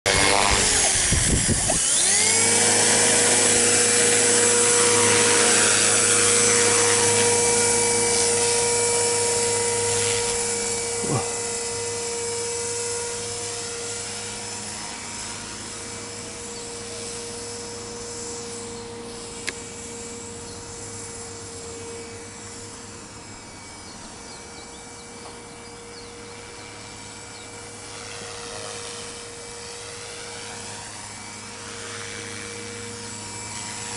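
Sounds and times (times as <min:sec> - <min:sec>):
rc helicopter motor whine: 0:00.1 - 0:33.9.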